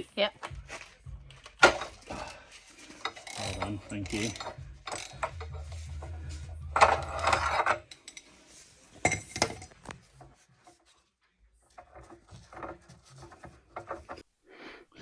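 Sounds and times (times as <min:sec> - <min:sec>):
metal tools clattering: 0:00.7 - 0:10.9, 0:11.7 - 0:14.2.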